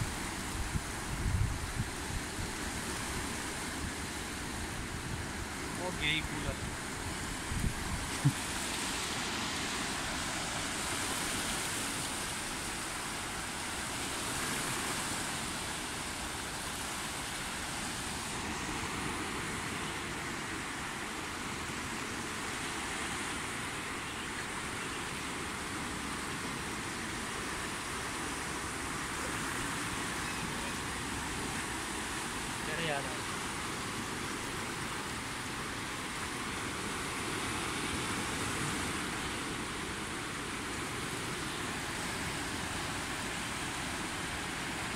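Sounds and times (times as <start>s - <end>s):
stream rushing: 0.0s - 44.9s.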